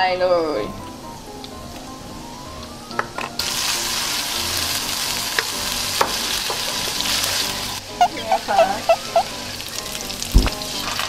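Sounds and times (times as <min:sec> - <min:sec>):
meat sizzling in hot oil: 0:00.1 - 0:11.0.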